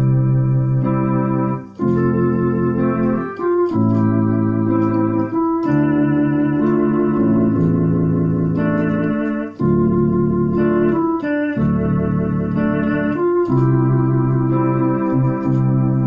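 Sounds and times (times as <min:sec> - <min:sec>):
electronic keyboard organ tune: 0:00.0 - 0:16.0.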